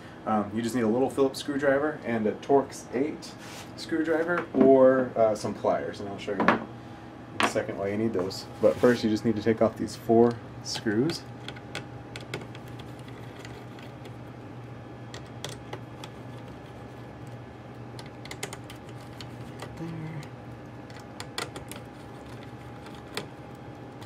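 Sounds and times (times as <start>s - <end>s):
faint hum: 0.0s - 24.0s.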